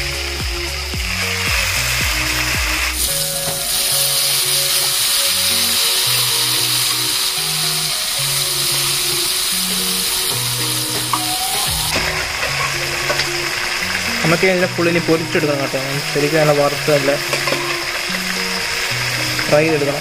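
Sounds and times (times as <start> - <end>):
background music: 0.0 - 20.0
meat sizzling in hot oil: 0.0 - 20.0.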